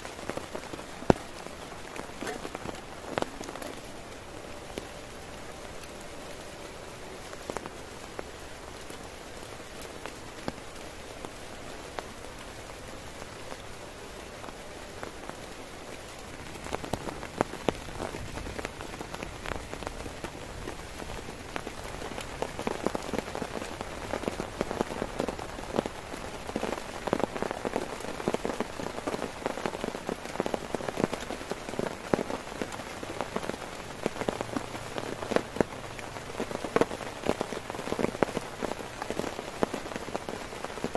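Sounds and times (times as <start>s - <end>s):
heavy rain on a tent: 0.0s - 40.9s.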